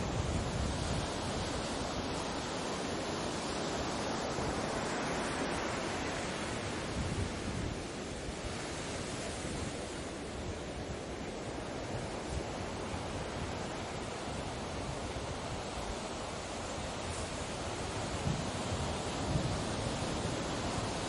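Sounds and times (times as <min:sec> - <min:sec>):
ocean waves washing onto beach: 0:00.0 - 0:21.0.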